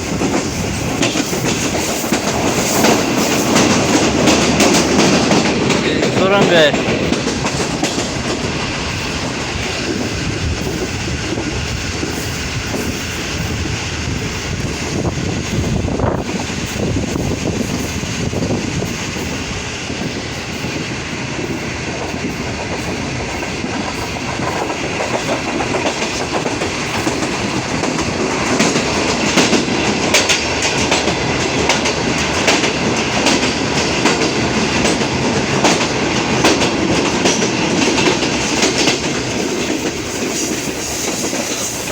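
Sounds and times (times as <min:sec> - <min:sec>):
train rolling rumble: 0:00.0 - 0:41.9
wheels clicking over rail joints: 0:00.0 - 0:41.9.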